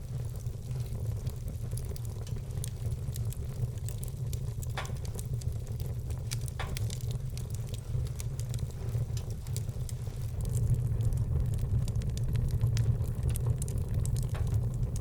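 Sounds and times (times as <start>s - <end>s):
loud fire pops: 0.0s - 15.0s
low fire rumble: 0.0s - 15.0s
wood fire crackling: 0.0s - 15.0s.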